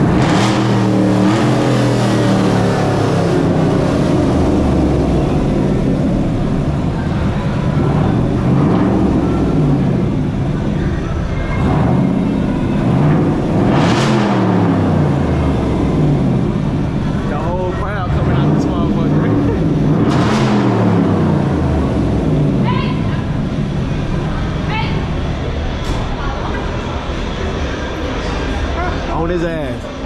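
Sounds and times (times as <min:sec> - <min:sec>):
car engine revving: 0:00.0 - 0:29.2.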